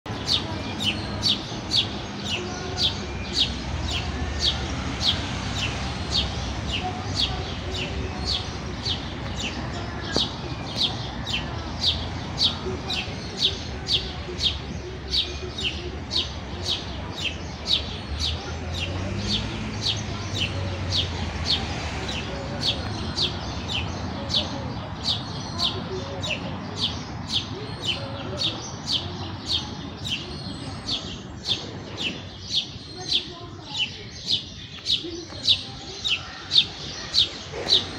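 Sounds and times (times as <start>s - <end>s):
sparrow chirping: 0.1s - 37.9s.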